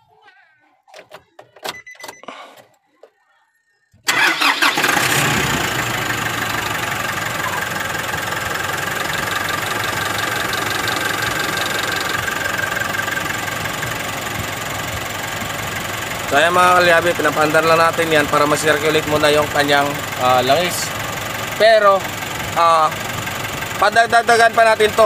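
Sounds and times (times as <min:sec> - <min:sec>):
van engine cranking and idling: 0:04.0 - 0:25.0.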